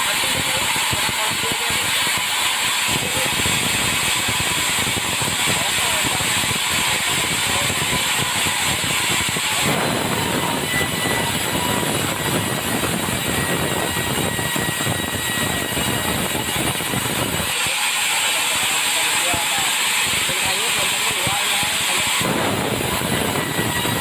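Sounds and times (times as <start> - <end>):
sawmill sawing timber: 0.0 - 24.0.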